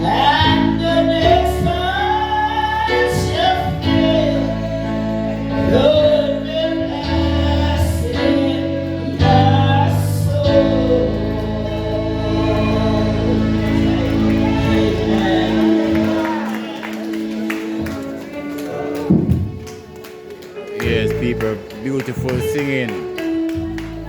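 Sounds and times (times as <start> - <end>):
choir singing a hymn: 0.0 - 19.4.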